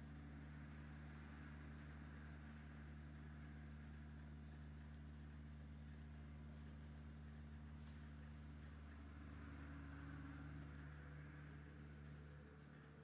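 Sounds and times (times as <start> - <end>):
pencil scratching on paper: 0.0 - 13.0
steady low hum: 0.0 - 13.0.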